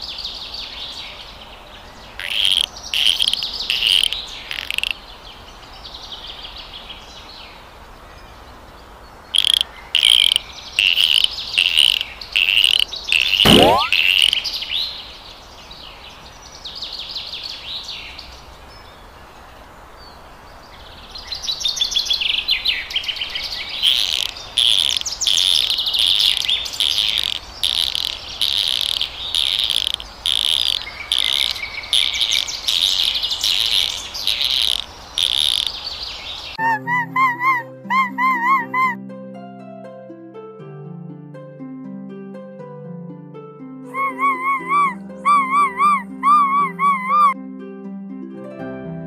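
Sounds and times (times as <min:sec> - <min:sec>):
birds chirping: 0:00.0 - 0:39.0, 0:43.9 - 0:47.4.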